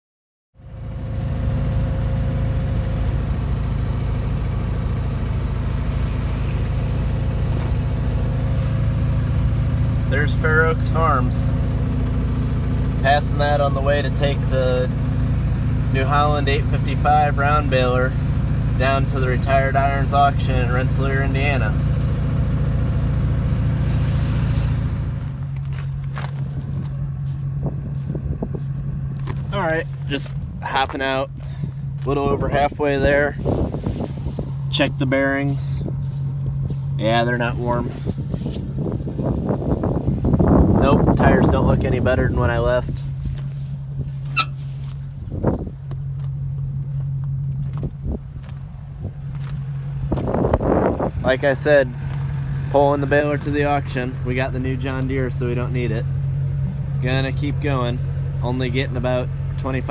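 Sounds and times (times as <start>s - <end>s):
engine low hum: 0.6s - 59.9s
road noise: 0.6s - 59.9s.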